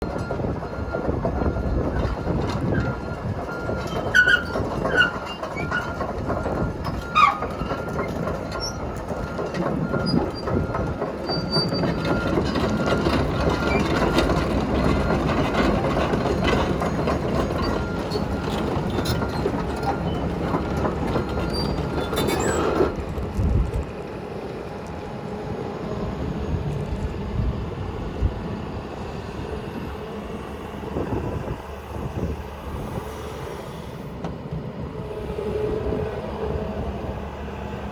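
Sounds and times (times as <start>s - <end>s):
excavator diesel engine: 0.0s - 37.9s
steel tracks clanking and squealing: 0.0s - 37.9s.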